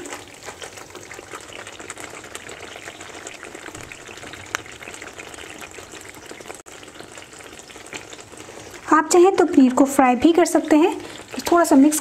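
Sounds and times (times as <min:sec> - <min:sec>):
gravy bubbling in a pan: 0:00.0 - 0:12.0.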